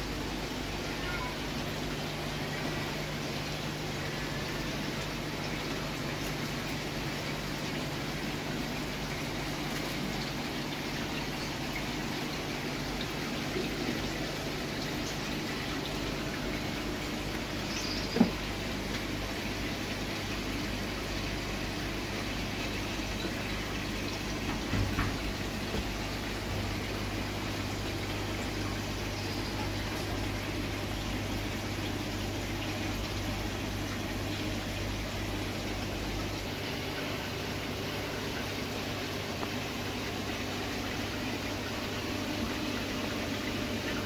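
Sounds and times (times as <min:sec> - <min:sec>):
aquarium water bubbling: 0:00.0 - 0:44.0.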